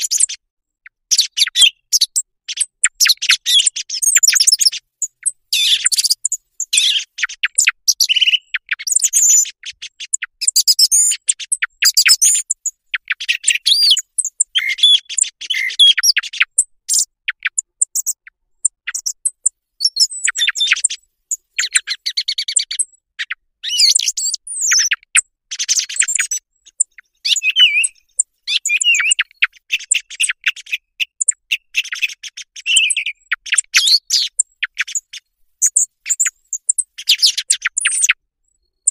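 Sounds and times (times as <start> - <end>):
song thrush singing: 0.0 - 38.9.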